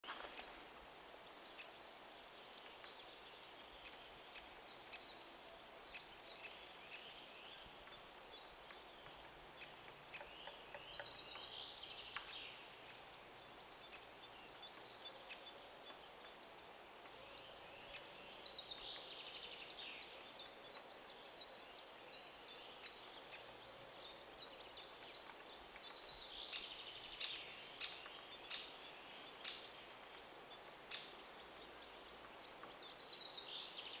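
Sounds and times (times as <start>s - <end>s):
small birds singing faintly: 0.0s - 34.0s.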